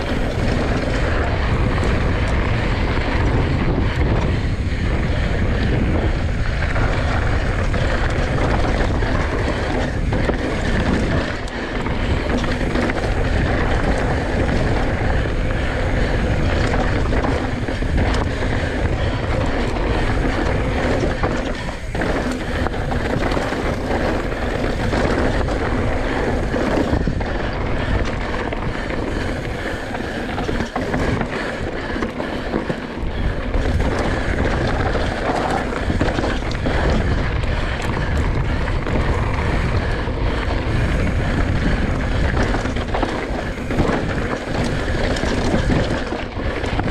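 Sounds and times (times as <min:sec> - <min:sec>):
rattle of bike over trail: 0:00.0 - 0:46.9
rush of bike tyres: 0:00.0 - 0:46.9
wind buffeting microphone: 0:00.0 - 0:46.9.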